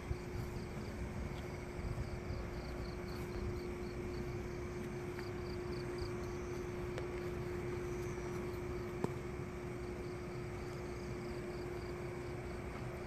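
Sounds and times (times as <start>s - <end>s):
insects chirping: 0.0s - 13.0s
low hum: 0.0s - 13.0s
low rumbling noise: 0.0s - 13.0s.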